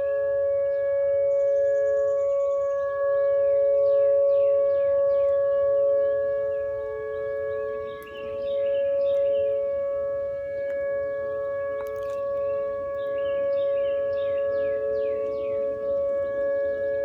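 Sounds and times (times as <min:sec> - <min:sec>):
warning siren two-note tone: 0:00.0 - 0:17.0
birds chirping: 0:00.7 - 0:17.0.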